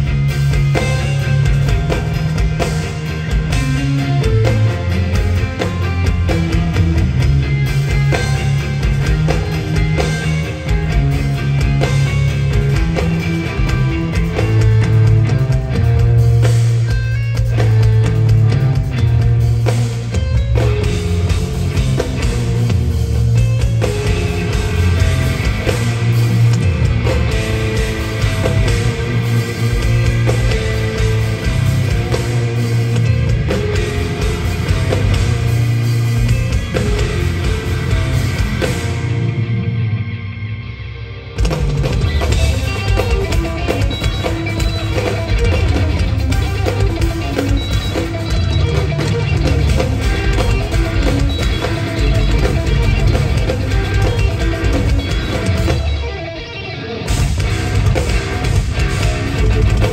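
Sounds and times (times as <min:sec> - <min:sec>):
drum kit: 0:00.0 - 0:40.1, 0:41.3 - 0:59.9
electric guitar riffs: 0:00.0 - 0:59.9.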